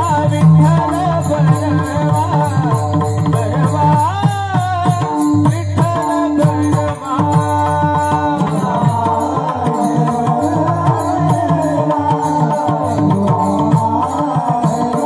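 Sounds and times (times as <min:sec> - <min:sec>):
devotional singing: 0:00.0 - 0:15.0.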